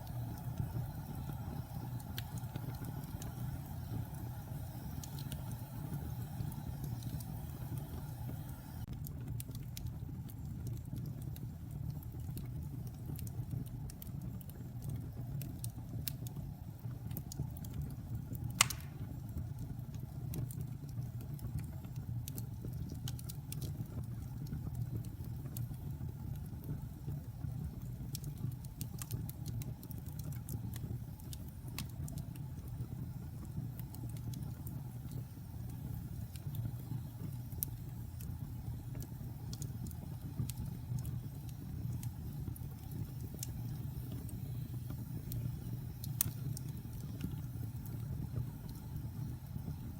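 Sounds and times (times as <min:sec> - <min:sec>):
fire flames rumbling: 0:00.0 - 0:49.9
wood fire crackling: 0:00.0 - 0:49.9
wood fire popping: 0:00.0 - 0:49.9.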